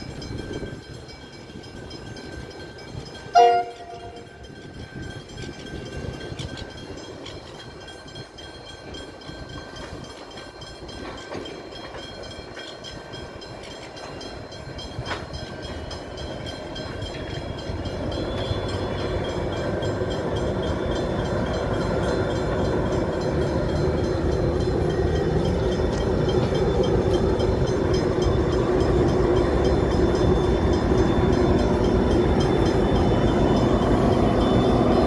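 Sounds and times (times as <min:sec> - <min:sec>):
locomotive engine rumble: 0:00.0 - 0:35.0.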